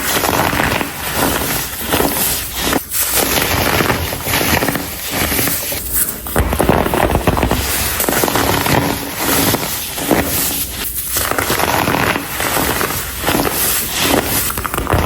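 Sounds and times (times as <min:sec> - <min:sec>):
baking soda crunching: 0:00.0 - 0:15.0.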